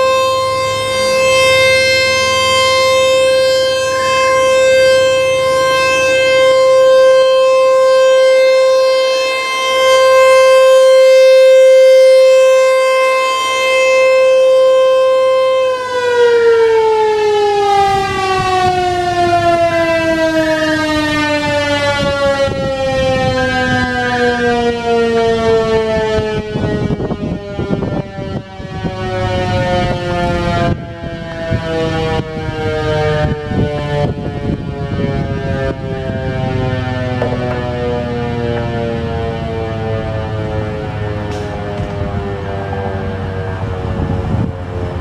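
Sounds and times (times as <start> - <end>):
rotating warning siren: 0.0 - 45.0.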